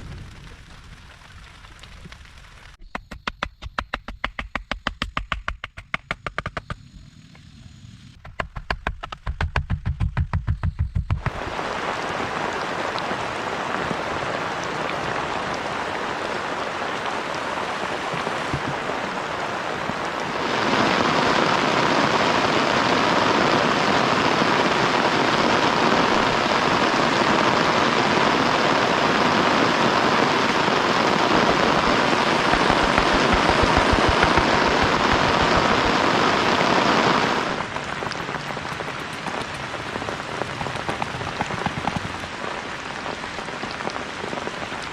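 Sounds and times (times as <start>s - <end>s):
heavy rain falling: 0.0s - 2.8s, 9.0s - 44.9s.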